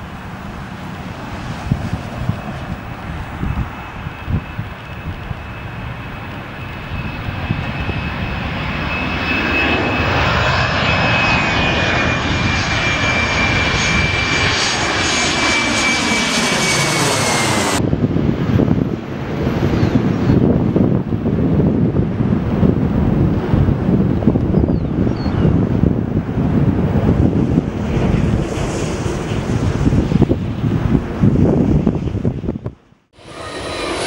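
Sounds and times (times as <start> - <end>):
jet passing overhead: 0.0 - 34.0.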